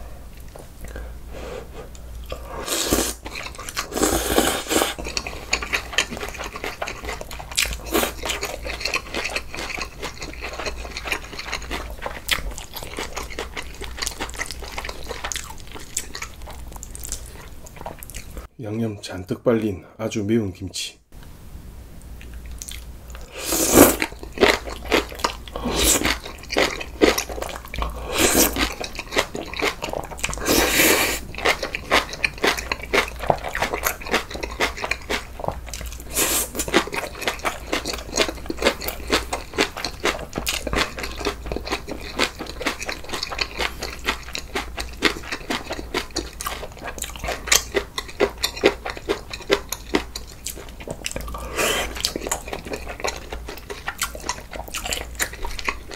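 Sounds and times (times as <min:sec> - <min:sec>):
chewing and crunching: 0:01.9 - 0:18.5, 0:22.2 - 0:23.3, 0:24.0 - 0:55.9.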